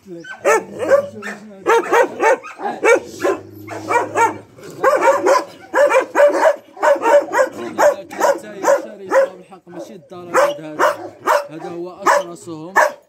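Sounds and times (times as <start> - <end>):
dogs barking: 0.2 - 13.0.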